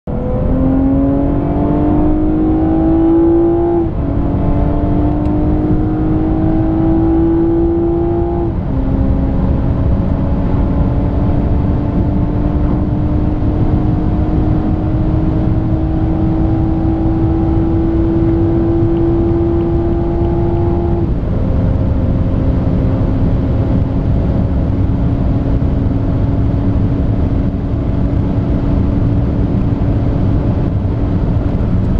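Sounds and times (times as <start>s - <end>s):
car engine accelerating: 0.1s - 31.9s
wind and tyre noise: 0.1s - 31.9s.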